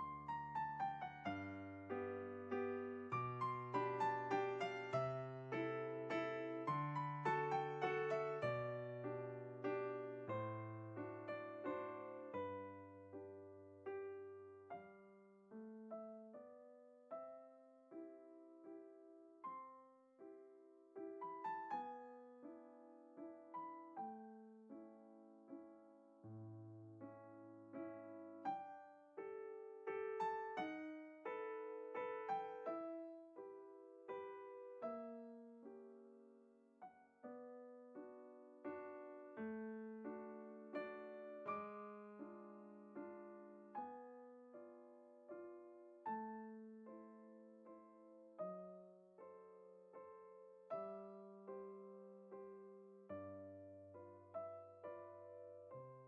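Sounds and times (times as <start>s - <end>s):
soft piano music: 0.0s - 56.0s.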